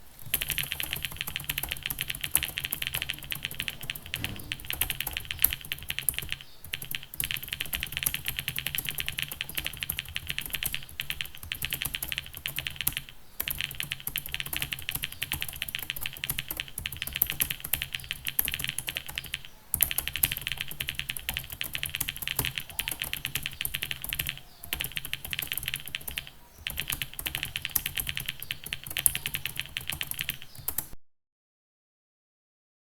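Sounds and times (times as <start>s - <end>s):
rapid keyboard typing: 0.2s - 31.0s.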